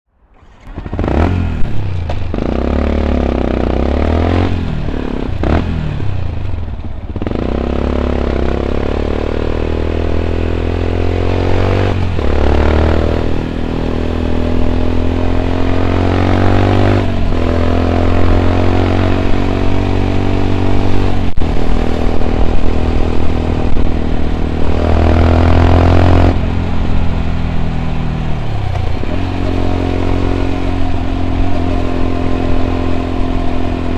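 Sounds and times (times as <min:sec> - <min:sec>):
motorcycle engine changing gears: 0:00.4 - 0:33.9.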